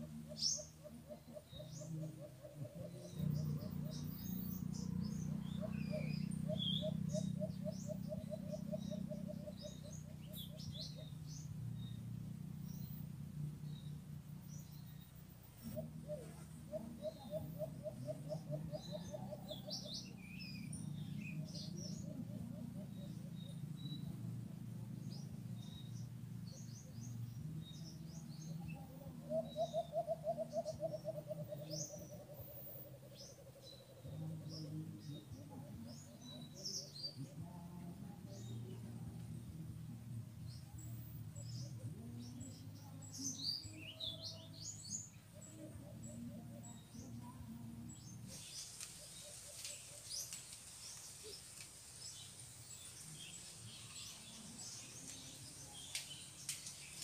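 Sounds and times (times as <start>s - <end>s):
small birds chirping: 0.0s - 57.0s
steady low hum: 0.0s - 57.0s.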